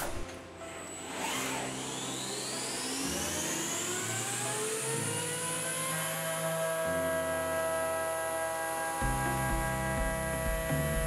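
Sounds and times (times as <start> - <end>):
low steady machine hums: 0.0 - 11.0
machine spindle whine rising: 0.0 - 11.0.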